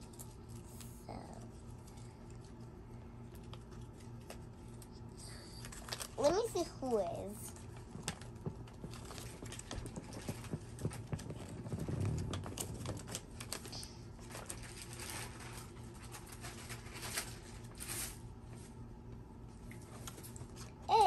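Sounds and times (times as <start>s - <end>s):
paper rustling and crinkling: 0.0s - 18.8s, 19.7s - 21.0s.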